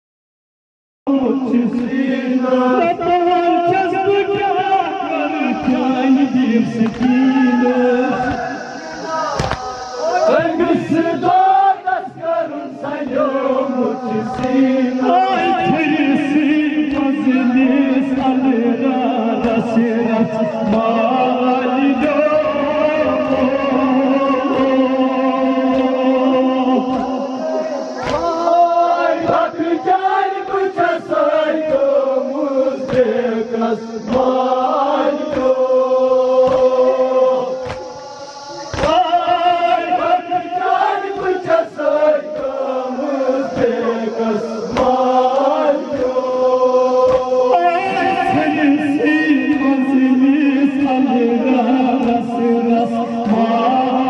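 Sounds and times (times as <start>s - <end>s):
men chanting a lament: 1.1s - 54.0s.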